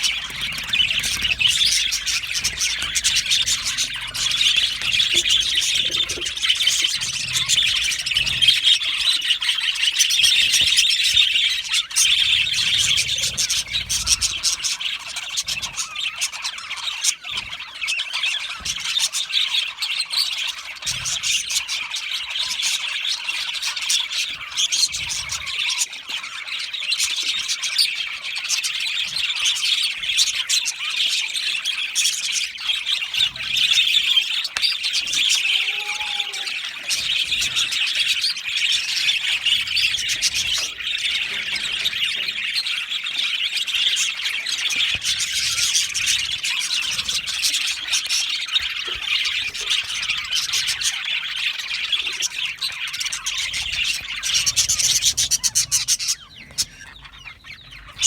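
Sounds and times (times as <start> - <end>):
budgerigars chattering: 0.0 - 58.0.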